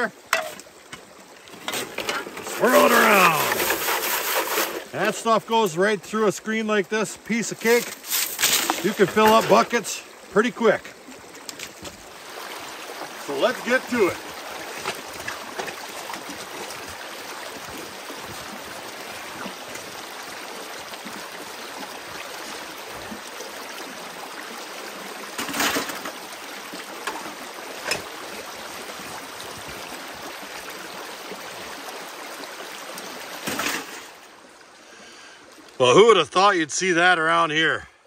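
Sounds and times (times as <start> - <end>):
creek water running over rocks: 0.0 - 37.9.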